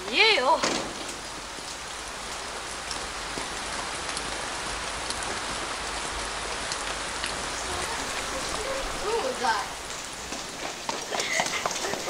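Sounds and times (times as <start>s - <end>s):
rain on pavement: 0.0s - 12.0s
raindrops ticking: 0.0s - 12.0s.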